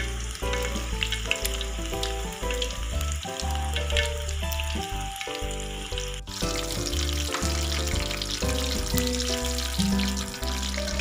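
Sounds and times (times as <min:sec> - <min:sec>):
background music with bass: 0:00.0 - 0:11.0
deep-frying sizzle in oil: 0:00.0 - 0:11.0.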